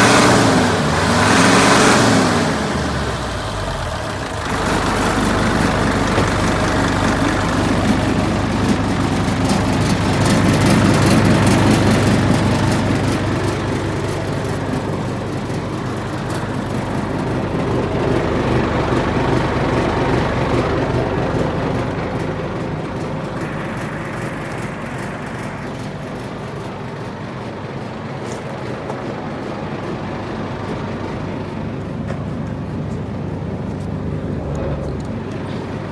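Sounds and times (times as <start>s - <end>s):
truck diesel engine running: 0.0s - 35.9s.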